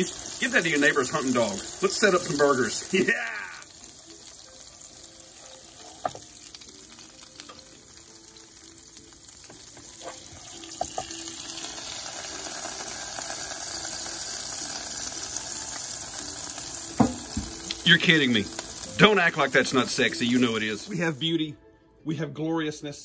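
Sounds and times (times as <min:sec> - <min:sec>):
burger patties sizzling on griddle: 0:00.0 - 0:21.3.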